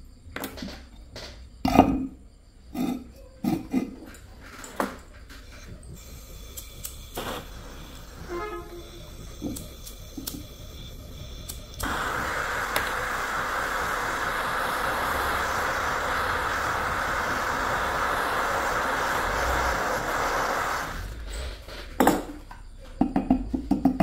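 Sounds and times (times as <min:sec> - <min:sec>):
gas torch flame hissing: 0:02.7 - 0:22.4.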